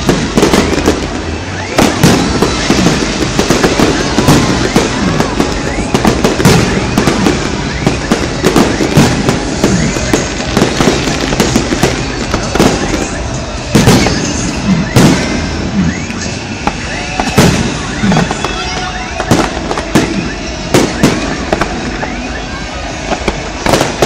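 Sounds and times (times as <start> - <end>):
fireworks bangs and crackles: 0.0 - 24.0
voices: 0.3 - 24.0.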